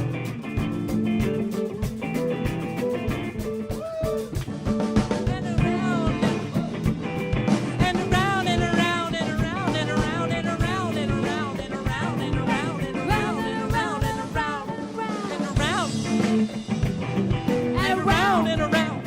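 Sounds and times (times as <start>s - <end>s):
drums steady beat: 0.0s - 19.0s
guitar and bass groove: 0.0s - 19.0s
wordless lead melody: 0.0s - 19.0s.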